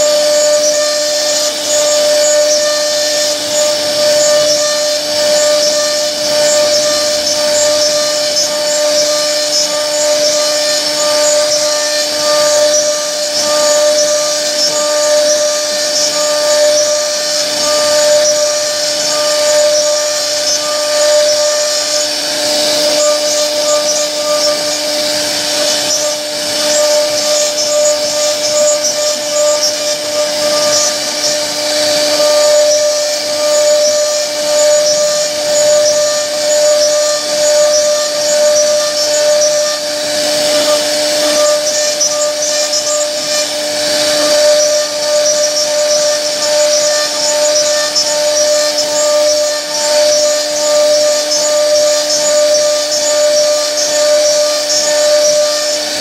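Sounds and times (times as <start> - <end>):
hiss of wood being cut: 0.0 - 56.0
router spindle high whine: 0.0 - 56.0.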